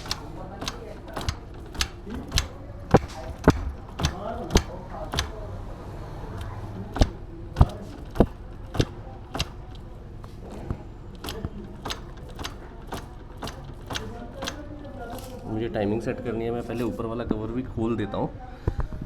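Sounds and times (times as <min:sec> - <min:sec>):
drivetrain mechanical clicking: 0:00.0 - 0:17.3.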